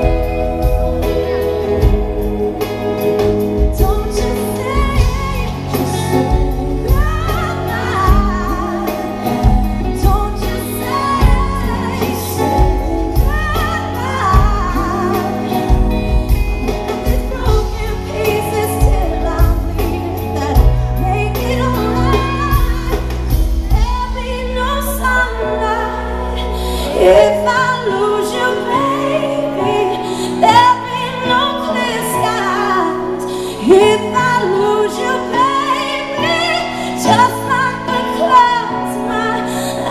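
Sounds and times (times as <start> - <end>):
band playing: 0.0 - 39.9
woman singing pop ballad: 0.0 - 39.9.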